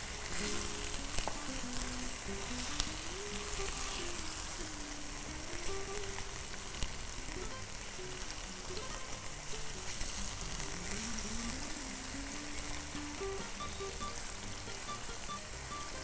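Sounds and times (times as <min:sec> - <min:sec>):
meat and vegetables sizzling in oil: 0:00.0 - 0:16.0.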